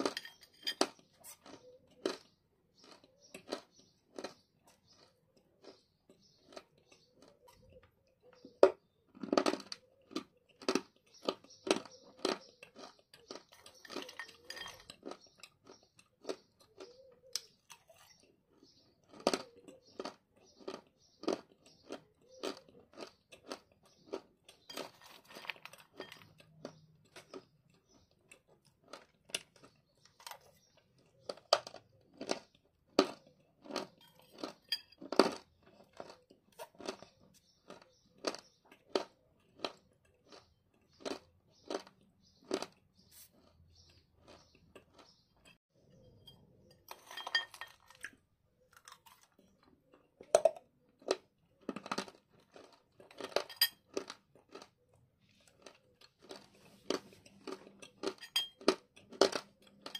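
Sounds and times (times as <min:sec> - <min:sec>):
chewing crunchy clay: 0:00.0 - 0:46.8, 0:47.6 - 0:59.9.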